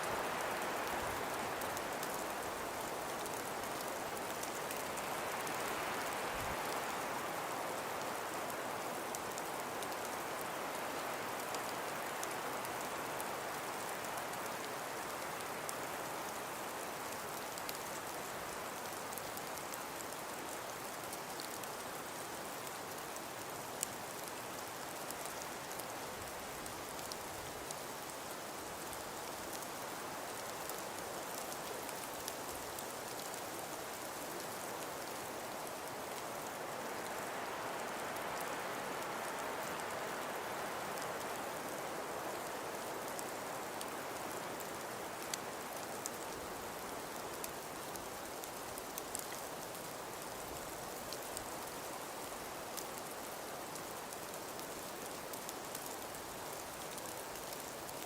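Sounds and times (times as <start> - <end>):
snow grains ticking on a surface: 0.1 - 58.0.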